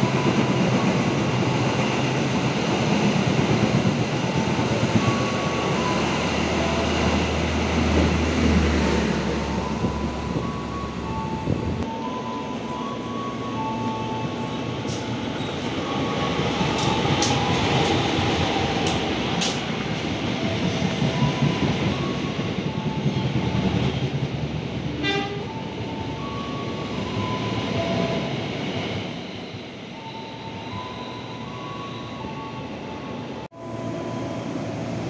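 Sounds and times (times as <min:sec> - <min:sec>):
passenger train passing: 0:00.0 - 0:35.0.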